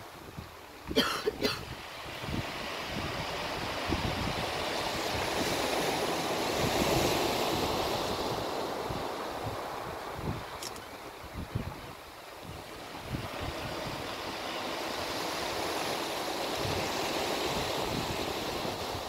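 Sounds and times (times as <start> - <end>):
waves breaking: 0.0 - 19.0
wind buffeting microphone: 0.0 - 19.0.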